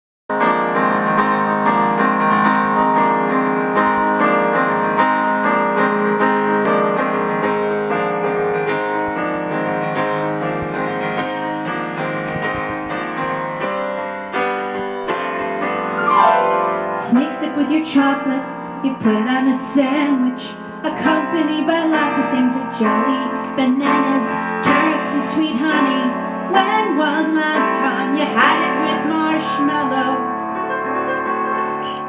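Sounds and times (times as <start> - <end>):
electronic keyboard piano chords: 0.3 - 32.0.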